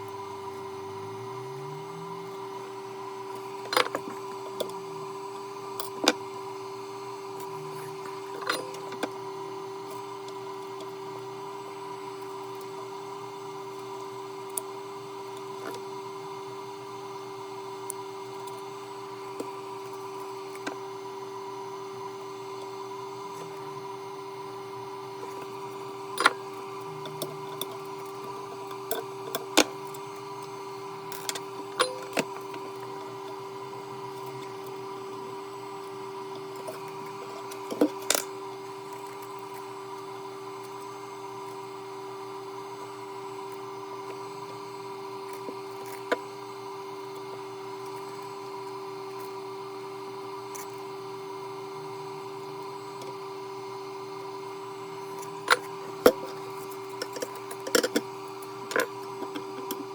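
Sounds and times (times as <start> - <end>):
two-tone electrical hum: 0.0 - 59.9.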